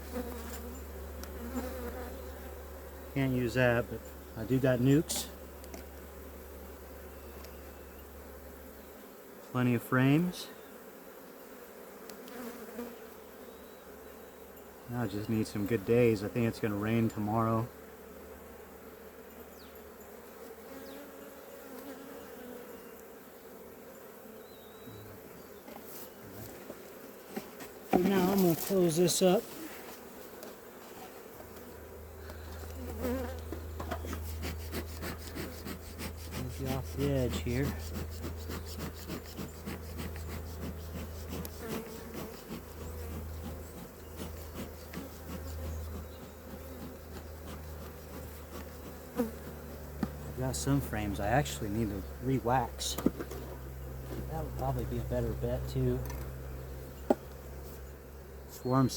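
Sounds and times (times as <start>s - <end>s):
honey bees buzzing: 0.0s - 58.9s.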